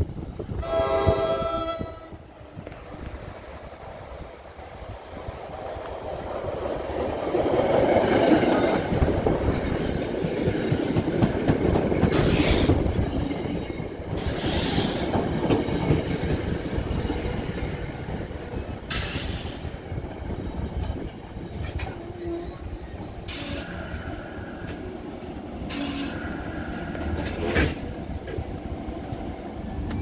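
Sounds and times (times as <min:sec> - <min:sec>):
train wheels rumbling and clacking: 0:02.4 - 0:30.0.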